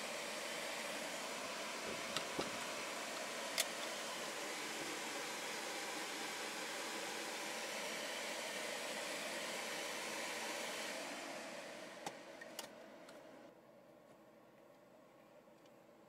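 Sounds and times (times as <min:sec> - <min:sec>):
blower fan rushing air: 0:00.0 - 0:13.5.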